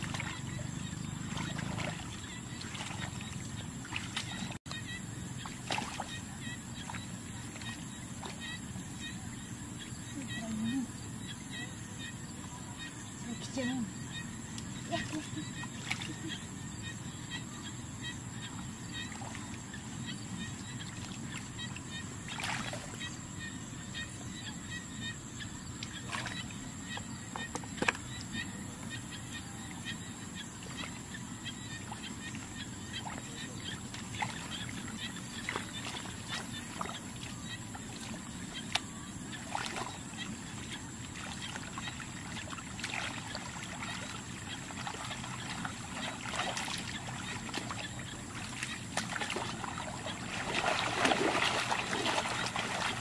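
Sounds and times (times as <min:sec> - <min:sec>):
water sloshing and splashing: 0:00.0 - 0:09.3, 0:14.6 - 0:16.4, 0:18.3 - 0:23.5, 0:25.8 - 0:53.0.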